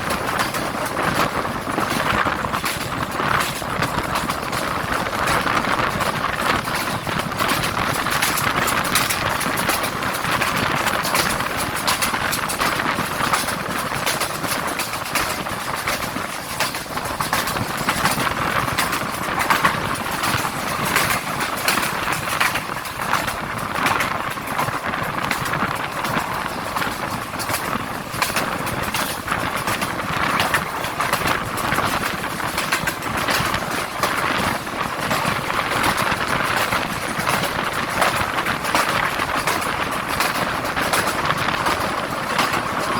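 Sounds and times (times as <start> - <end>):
passenger train rattling: 0.0 - 42.9.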